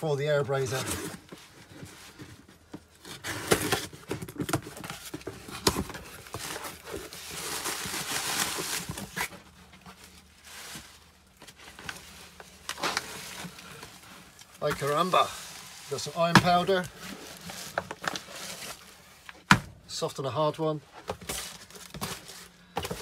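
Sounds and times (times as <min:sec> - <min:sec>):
bubble wrap rustling and crinkling: 0:00.6 - 0:19.4, 0:21.1 - 0:23.0.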